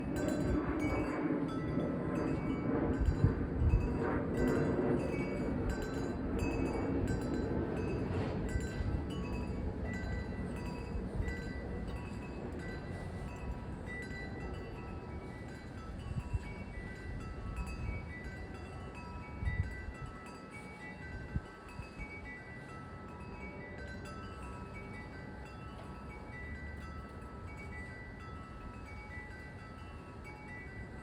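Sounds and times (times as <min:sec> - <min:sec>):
wind chimes ringing: 0:00.0 - 0:31.0
wind rumble on microphone: 0:00.0 - 0:31.0.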